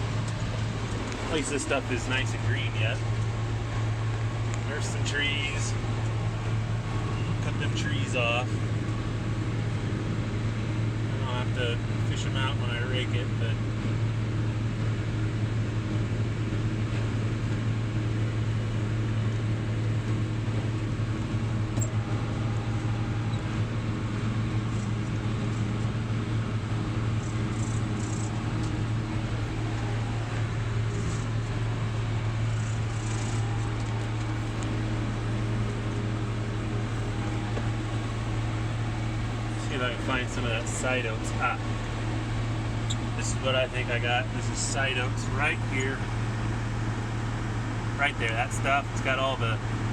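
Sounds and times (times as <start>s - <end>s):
tractor engine droning: 0.0s - 49.9s.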